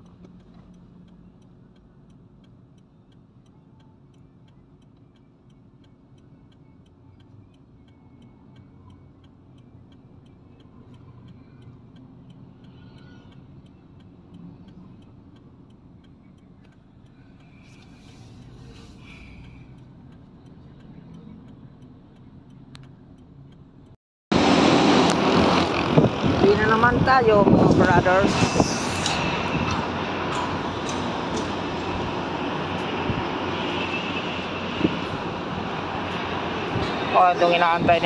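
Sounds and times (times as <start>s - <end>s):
engine and road rumble: 0.0s - 38.0s.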